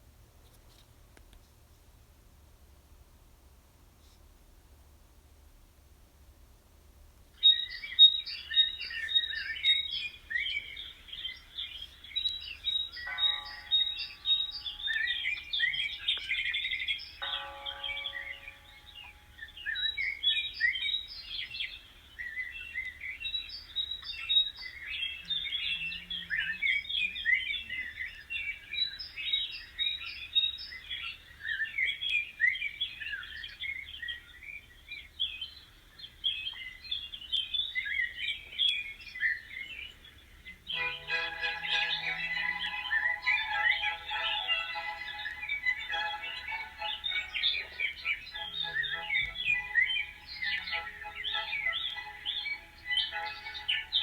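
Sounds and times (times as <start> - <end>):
flock of birds chirping: 7.4 - 54.0.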